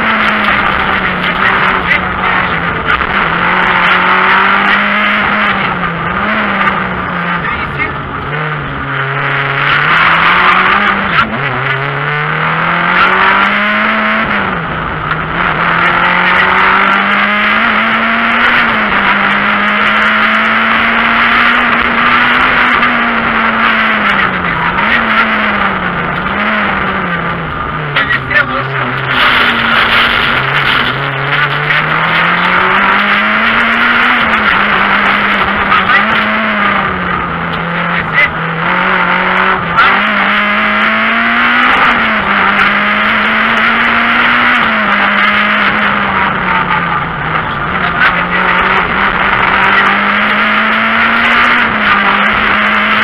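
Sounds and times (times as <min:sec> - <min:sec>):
car engine revving: 0:00.0 - 0:53.0
intake and road noise: 0:00.0 - 0:53.0.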